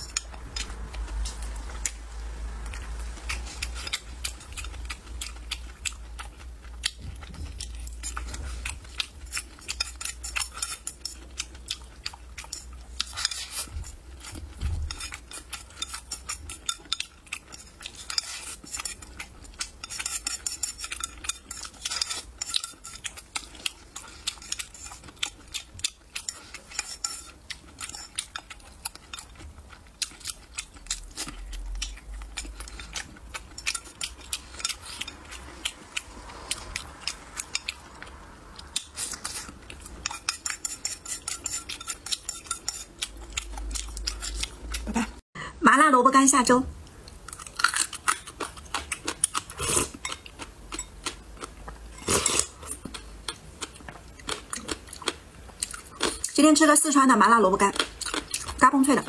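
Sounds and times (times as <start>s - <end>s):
chewing: 0.0s - 45.2s, 46.8s - 56.4s, 57.6s - 59.0s.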